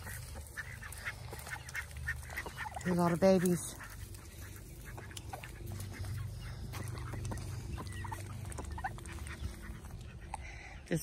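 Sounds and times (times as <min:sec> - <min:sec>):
ducklings quacking softly: 0:00.0 - 0:11.0
low steady hum: 0:00.0 - 0:11.0.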